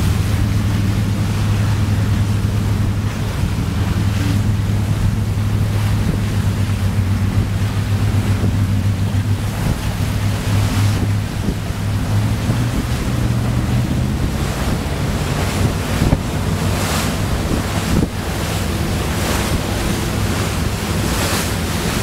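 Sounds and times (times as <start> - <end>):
boat engine drone: 0.0 - 22.0
water rushing past hull: 0.0 - 22.0
wind buffeting microphone: 0.0 - 22.0.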